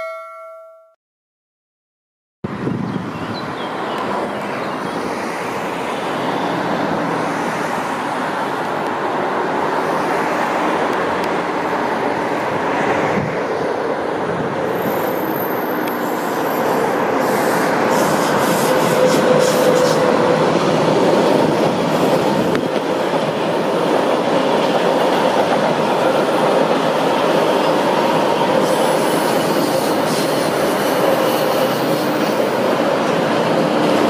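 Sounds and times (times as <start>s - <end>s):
train rolling: 4.0s - 34.0s.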